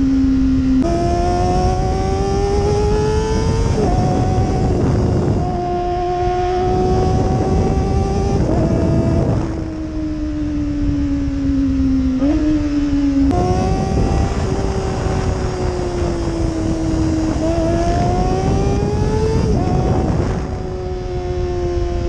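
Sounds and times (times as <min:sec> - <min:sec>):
motorcycle engine revving: 0:00.0 - 0:22.0
wind rush: 0:00.0 - 0:22.0.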